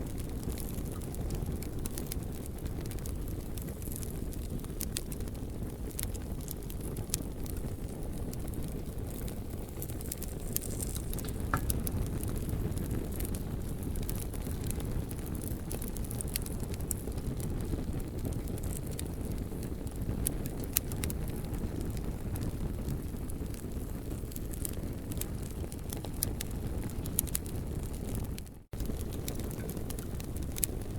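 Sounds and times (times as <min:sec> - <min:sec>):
campfire low rumble: 0:00.0 - 0:30.9
campfire popping and snapping: 0:00.0 - 0:30.9.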